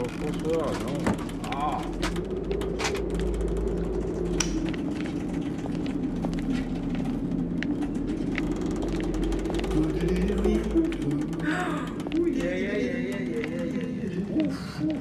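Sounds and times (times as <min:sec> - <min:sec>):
light clicks and creaks: 0:00.0 - 0:15.0
ship interior low rumble: 0:00.0 - 0:15.0.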